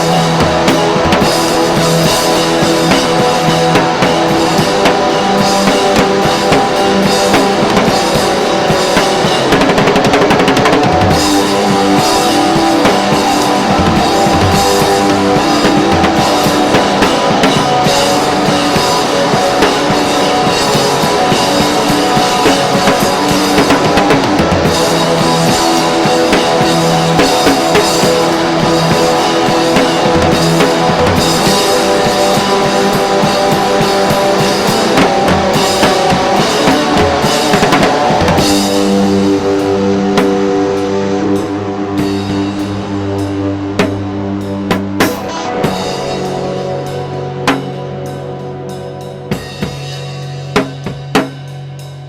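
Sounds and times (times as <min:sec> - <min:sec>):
loud rock music: 0:00.0 - 0:52.0.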